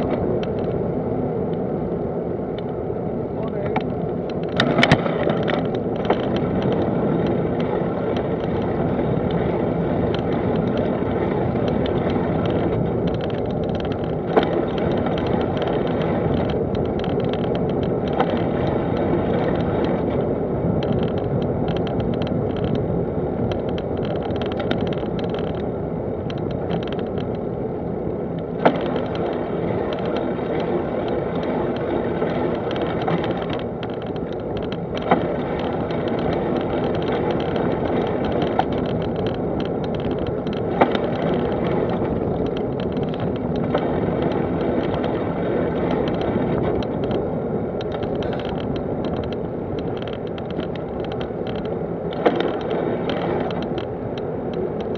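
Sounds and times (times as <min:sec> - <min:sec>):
tyres rolling on tarmac: 0:00.0 - 0:54.9
wind on microphone: 0:00.0 - 0:54.9.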